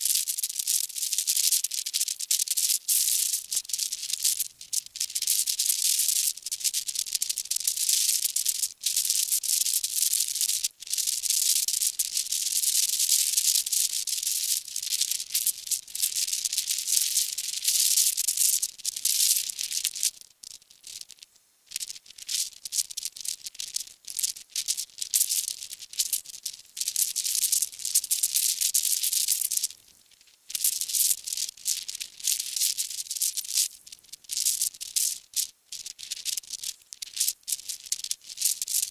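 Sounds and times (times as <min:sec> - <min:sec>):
grainy high-pitched hiss: 0:00.0 - 0:38.9.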